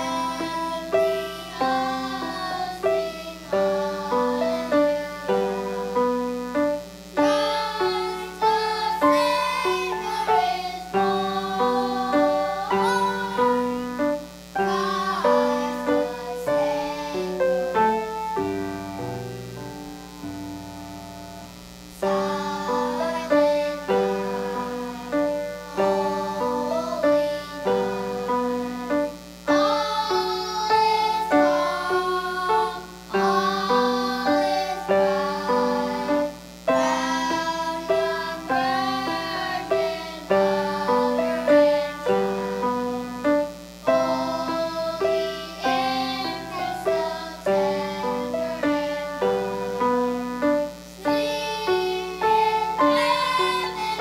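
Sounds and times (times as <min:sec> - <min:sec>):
children singing: 0:00.0 - 0:06.3, 0:07.2 - 0:18.2, 0:22.0 - 0:43.0, 0:43.8 - 0:50.1, 0:51.0 - 0:54.0
piano accompaniment: 0:00.0 - 0:54.0.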